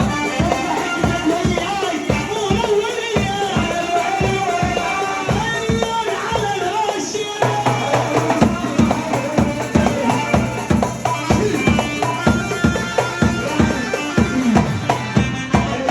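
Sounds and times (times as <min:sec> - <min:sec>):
driving drum beat: 0:00.0 - 0:15.9
held melody line: 0:00.0 - 0:15.9.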